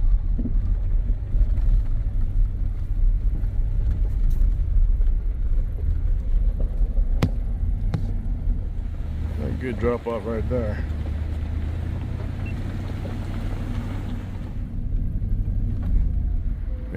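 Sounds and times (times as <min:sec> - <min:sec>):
off-road vehicle engine rumble: 0:00.0 - 0:16.9.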